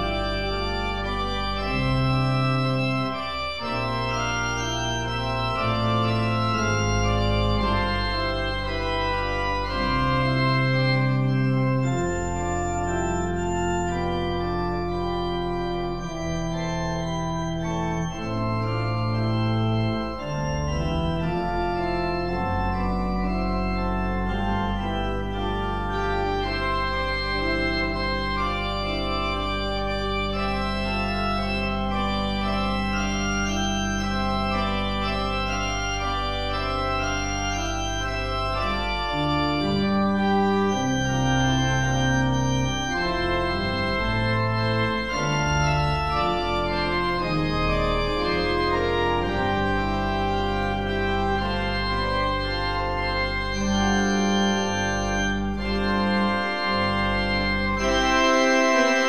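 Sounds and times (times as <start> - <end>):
church organ chords: 0.0 - 59.0
organ pedal bass: 0.0 - 59.0.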